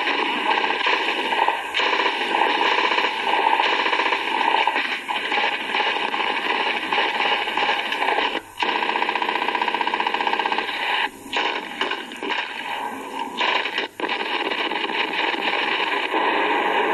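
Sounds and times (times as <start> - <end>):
machine-gun fire through tinny speaker: 0.0 - 16.9.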